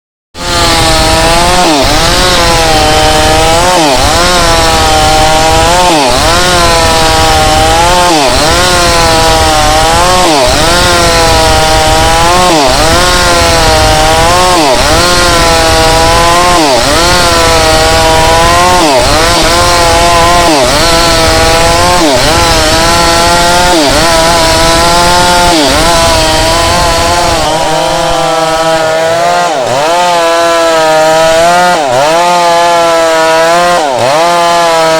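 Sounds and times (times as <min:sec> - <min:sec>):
chainsaw ripping wood: 0:00.4 - 0:34.9.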